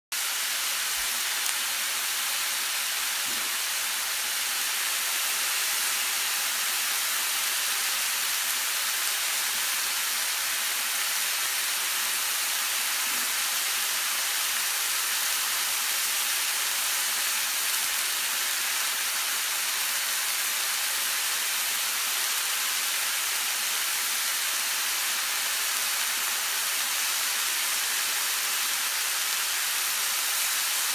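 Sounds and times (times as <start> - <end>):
meat sizzling in a frying pan: 0.2 - 30.9.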